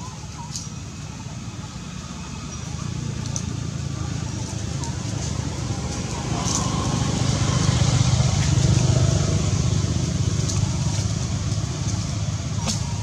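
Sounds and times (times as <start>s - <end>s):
vehicle engine running: 0.8s - 13.0s.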